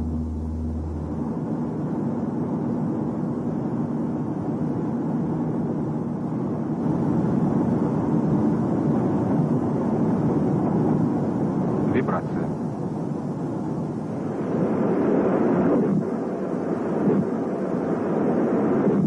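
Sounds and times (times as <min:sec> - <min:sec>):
rumbling road and wind noise: 0:00.0 - 0:19.0.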